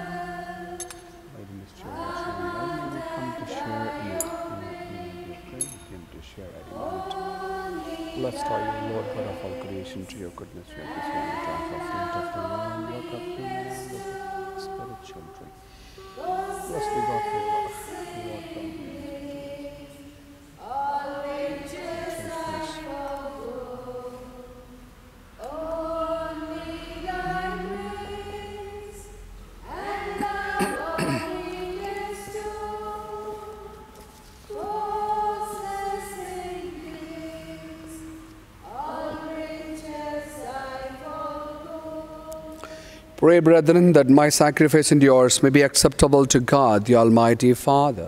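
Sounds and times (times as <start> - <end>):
choir singing a hymn: 0.0 - 45.7.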